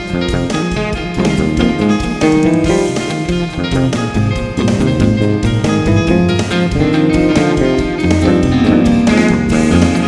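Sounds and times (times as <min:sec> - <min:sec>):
bass guitar: 0:00.0 - 0:10.0
electric guitars: 0:00.0 - 0:10.0
steady drum beat: 0:00.0 - 0:10.0.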